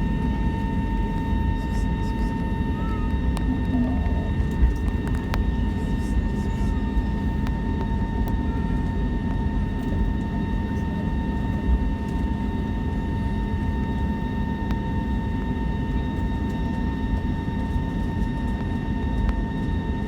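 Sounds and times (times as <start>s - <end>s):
airplane cabin rumble: 0.0s - 19.3s
thin steady whine: 0.0s - 20.0s.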